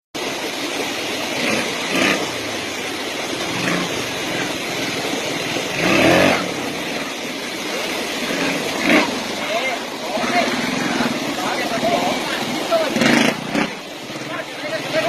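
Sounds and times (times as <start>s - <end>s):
dirt bike engines revving: 0.2s - 15.0s.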